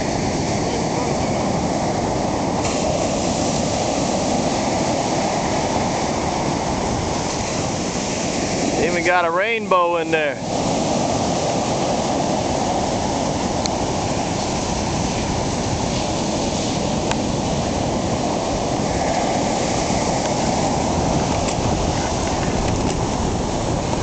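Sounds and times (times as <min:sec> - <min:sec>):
ocean waves breaking: 0:00.0 - 0:24.0.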